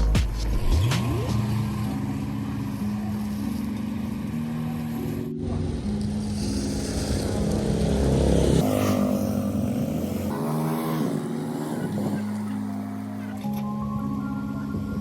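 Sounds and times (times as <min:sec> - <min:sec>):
electronic synth music: 0:00.0 - 0:15.0.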